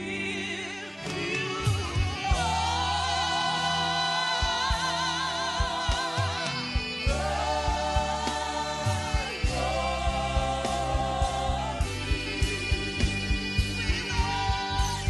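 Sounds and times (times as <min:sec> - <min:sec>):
band playing: 0:00.0 - 0:15.0
choir singing: 0:00.0 - 0:15.0
women singing with vibrato: 0:00.0 - 0:15.0
drum beats: 0:01.0 - 0:15.0.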